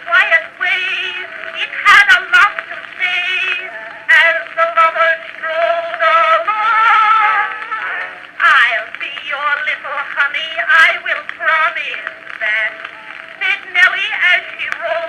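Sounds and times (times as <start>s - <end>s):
record surface clicks: 0.0s - 15.0s
woman singing with vibrato: 0.0s - 15.0s.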